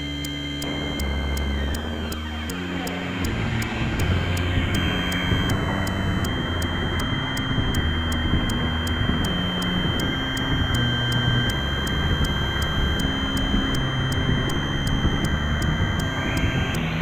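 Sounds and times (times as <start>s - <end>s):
regular tick: 0.0s - 16.9s
distorted noise wash: 0.0s - 17.0s
high-pitched whine: 0.0s - 17.0s
low synth bass line: 0.0s - 17.0s.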